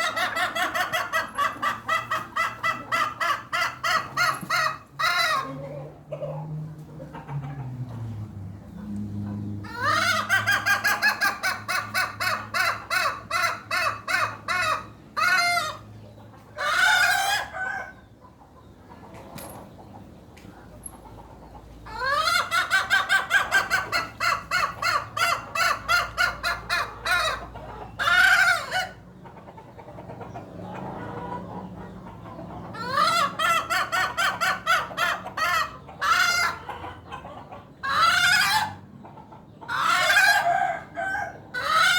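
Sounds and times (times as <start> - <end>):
hen cackling: 0.0 - 7.7, 9.6 - 15.9, 16.6 - 18.0, 21.1 - 41.9.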